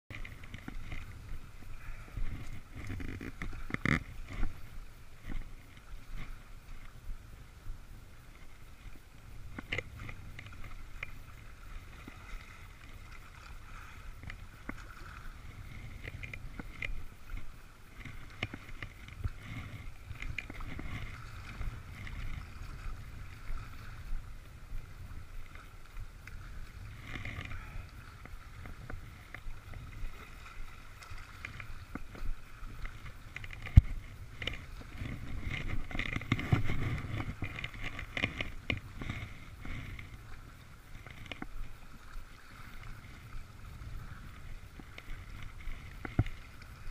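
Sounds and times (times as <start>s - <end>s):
water splashing against rocks: 0.1s - 46.9s
wind rumbling on microphone: 0.1s - 46.9s.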